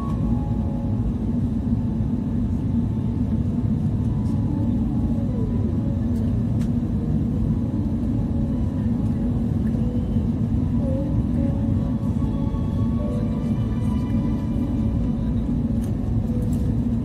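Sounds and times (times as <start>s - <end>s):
airliner engines rumbling: 0.0s - 17.0s
faint hum: 0.0s - 17.0s.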